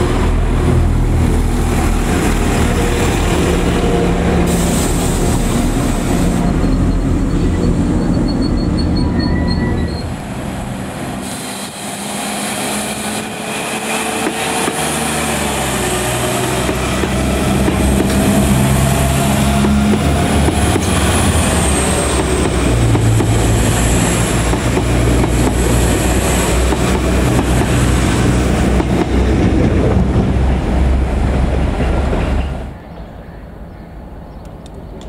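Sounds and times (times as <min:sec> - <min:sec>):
train wheels on rails: 0:00.0 - 0:32.8
diesel train engine hum: 0:00.0 - 0:35.0.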